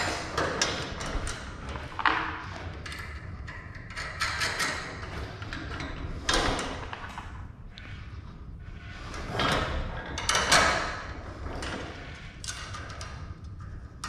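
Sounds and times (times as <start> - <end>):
metal parts scraping and knocking: 0.0 - 14.0.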